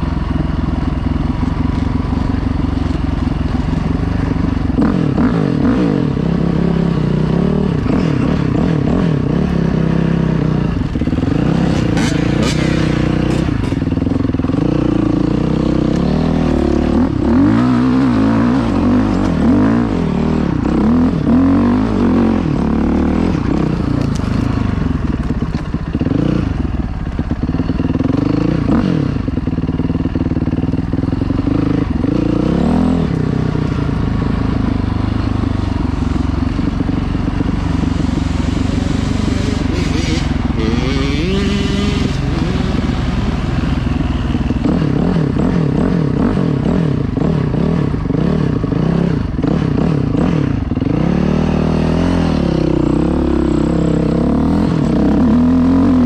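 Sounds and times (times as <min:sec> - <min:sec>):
dirt bike engine revving: 0:02.8 - 0:56.0.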